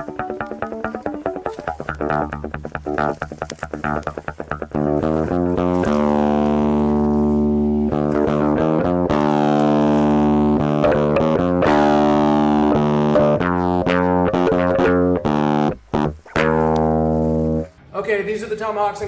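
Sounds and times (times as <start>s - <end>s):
bass guitar: 0.0s - 17.8s
distorted electric guitar: 0.0s - 17.8s.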